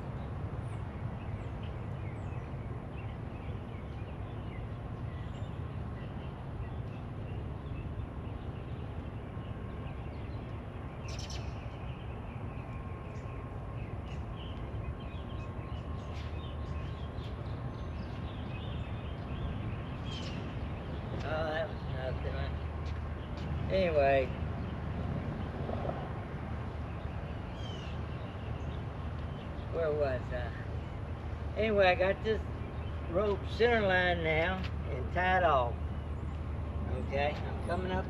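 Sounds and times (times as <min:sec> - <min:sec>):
low outdoor rumble: 0:00.0 - 0:38.0
small birds chirping: 0:00.0 - 0:38.0.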